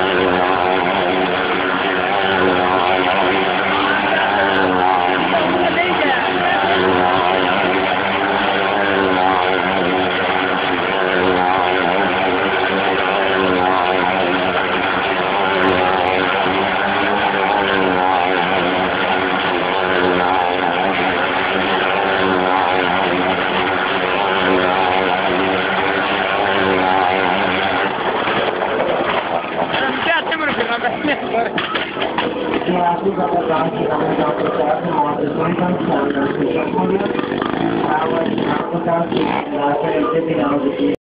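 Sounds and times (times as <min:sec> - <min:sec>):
motorcycle engine running hard: 0:00.0 - 0:41.0.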